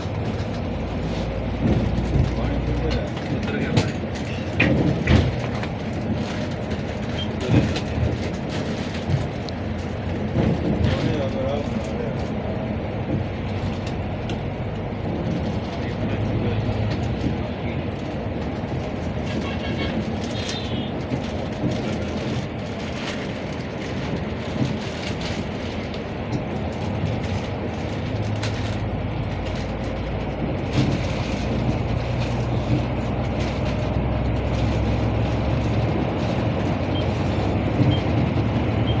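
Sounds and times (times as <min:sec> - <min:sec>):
heavy vehicle engine hum: 0:00.0 - 0:39.0
road traffic noise: 0:00.0 - 0:39.0.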